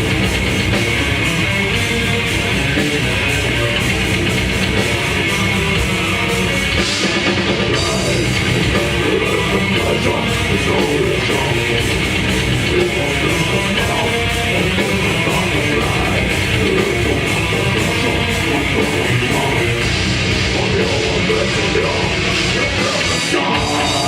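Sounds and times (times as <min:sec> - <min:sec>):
bass guitar: 0:00.0 - 0:24.0
distorted electric guitars: 0:00.0 - 0:24.0
rapid drum hits: 0:00.0 - 0:24.0.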